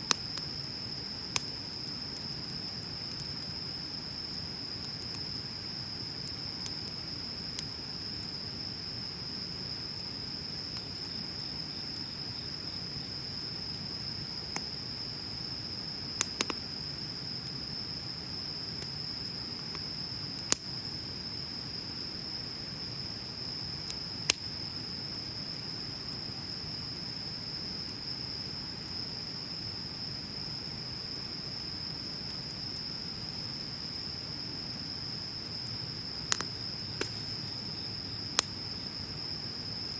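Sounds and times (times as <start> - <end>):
bonfire burning: 0.0 - 39.9
fire crackling pops: 0.0 - 39.9
insect trill: 0.0 - 39.9.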